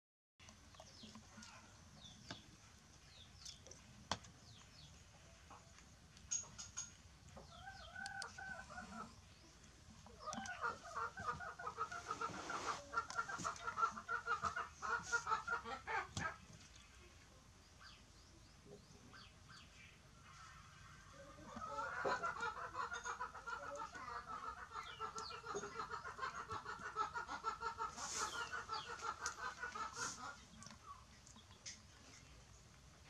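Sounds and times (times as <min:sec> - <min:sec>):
chicken clucking: 0:04.4 - 0:18.0, 0:18.6 - 0:32.4.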